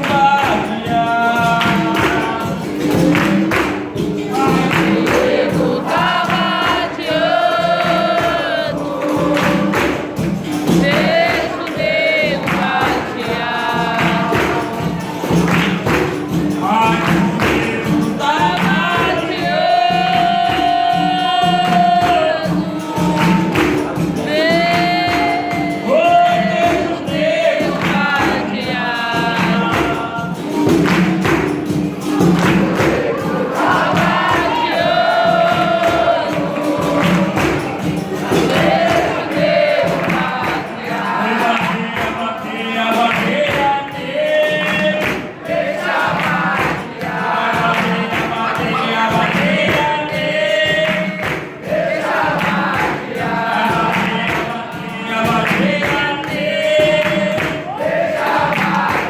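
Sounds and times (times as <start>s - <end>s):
steady percussion beat: 0.0s - 59.0s
tambourine: 0.0s - 59.0s
voices singing together: 0.0s - 59.0s.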